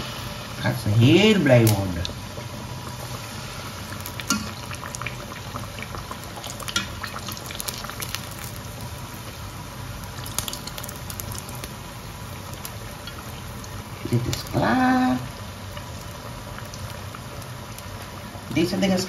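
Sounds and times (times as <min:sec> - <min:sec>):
deep-frying bubbling hiss: 0:00.0 - 0:19.0
oil popping and crackling: 0:01.4 - 0:18.7.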